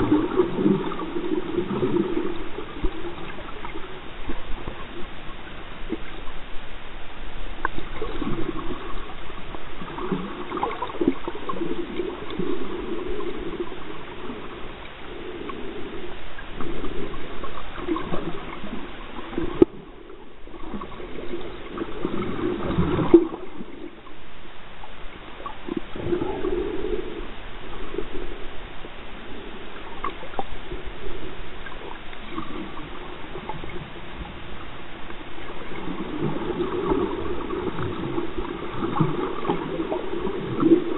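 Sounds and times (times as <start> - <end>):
muffled gurgling underwater water: 0.0 - 40.9.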